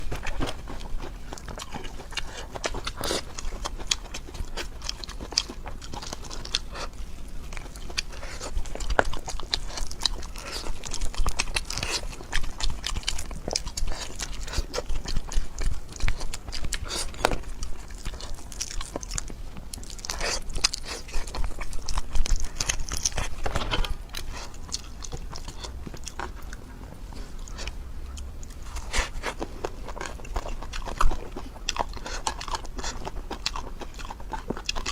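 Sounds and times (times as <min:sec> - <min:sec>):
crunchy crackles: 0:00.0 - 0:34.9
person biting and chewing: 0:00.0 - 0:34.9.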